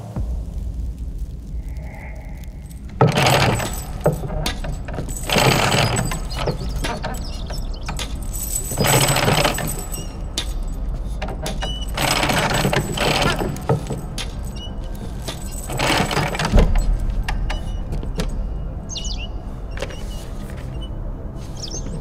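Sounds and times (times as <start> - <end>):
cage lift clanking and rattling: 3.0 - 20.9.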